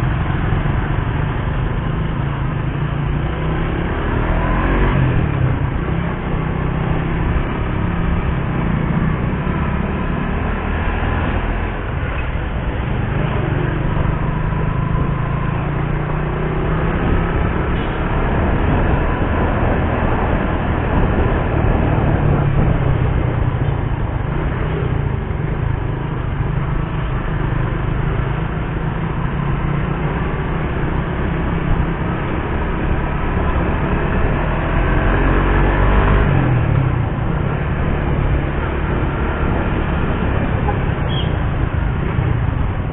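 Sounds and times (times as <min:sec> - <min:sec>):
motorcycle engine droning: 0:00.0 - 0:42.9
wind and road noise: 0:00.0 - 0:42.9.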